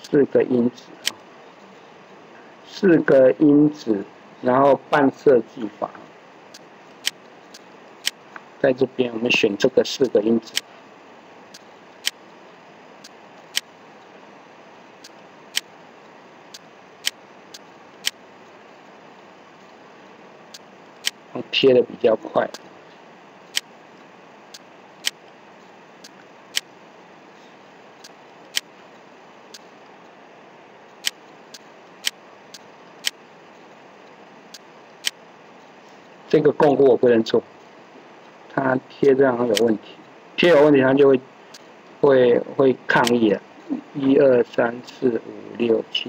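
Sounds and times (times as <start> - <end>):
low hiss: 0.0 - 46.0.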